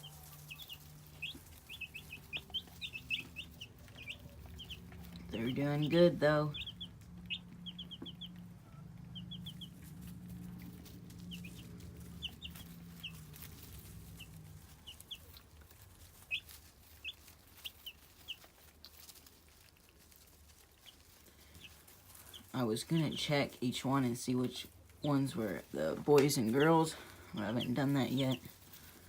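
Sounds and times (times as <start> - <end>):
chicks peeping: 0.0 - 29.0
low steady hum: 0.0 - 29.0.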